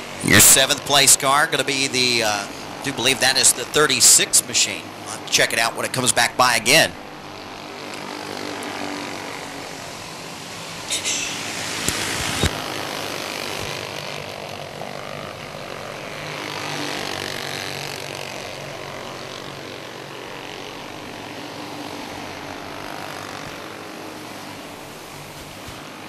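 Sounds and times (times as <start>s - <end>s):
kart engines buzzing: 0.0s - 26.0s.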